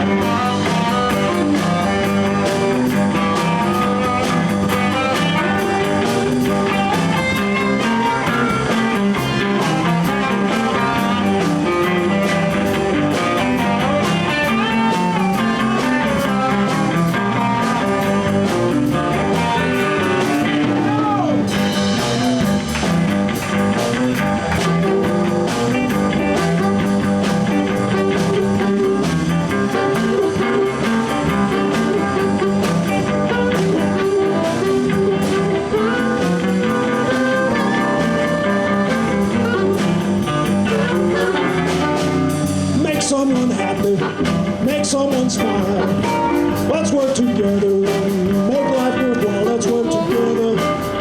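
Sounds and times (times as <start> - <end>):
bass guitar: 0.0 - 51.0
electric guitar lead: 0.0 - 51.0
steady drum beat: 0.0 - 51.0.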